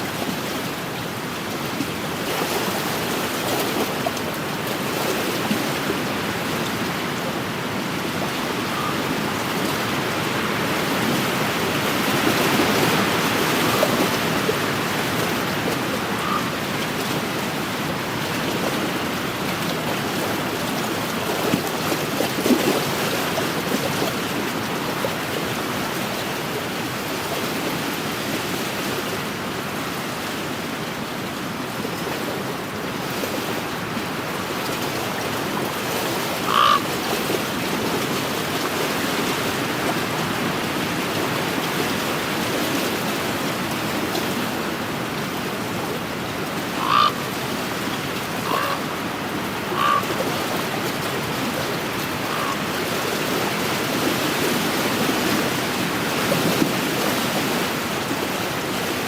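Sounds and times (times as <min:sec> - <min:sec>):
waves lapping on shore: 0:00.0 - 0:59.0.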